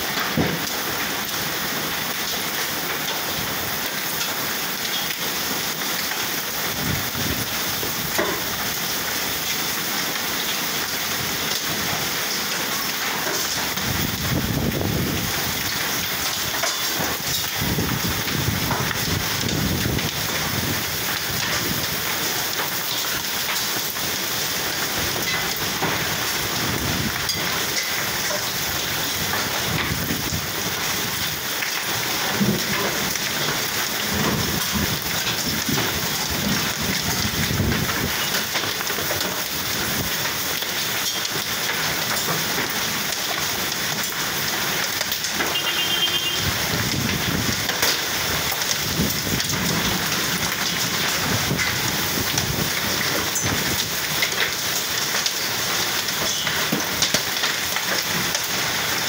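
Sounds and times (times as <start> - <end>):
hail pelting down: 0.0 - 59.0
heavy rain: 0.0 - 59.0.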